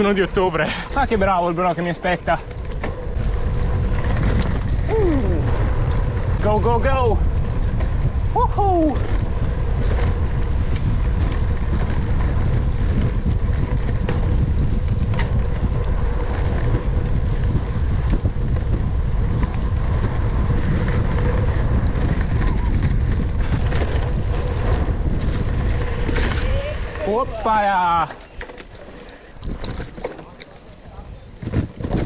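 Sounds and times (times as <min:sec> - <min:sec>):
wind rumbling on microphone: 0:00.0 - 0:32.0
tyre noise on dirt: 0:00.8 - 0:32.0
bike knocks and rattles: 0:02.3 - 0:32.0.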